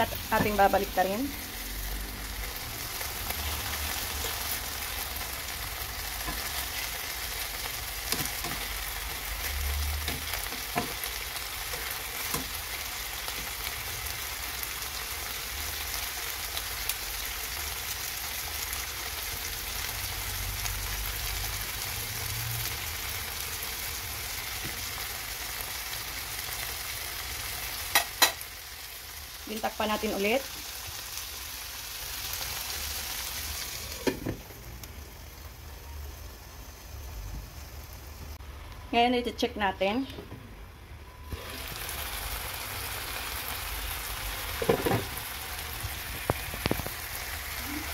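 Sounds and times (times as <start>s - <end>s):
chicken frying in oil: 0.0s - 35.1s, 41.3s - 47.9s.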